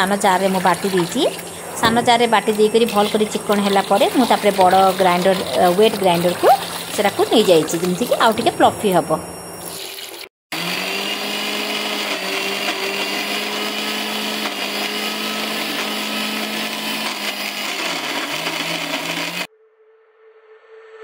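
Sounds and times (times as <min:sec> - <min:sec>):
mixer grinder motor whine: 0:00.0 - 0:19.5.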